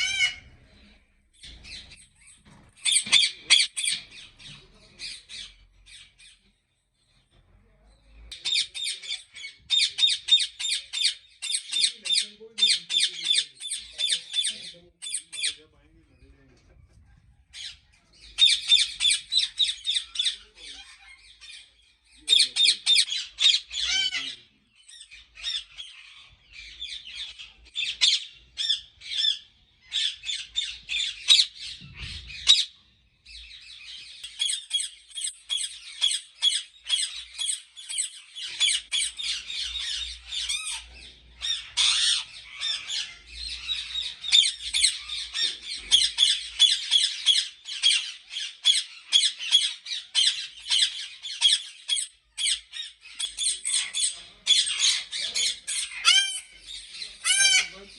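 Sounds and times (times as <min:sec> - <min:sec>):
parakeets squawking: 0:00.0 - 0:00.6, 0:01.4 - 0:06.4, 0:08.4 - 0:15.7, 0:17.5 - 0:57.9.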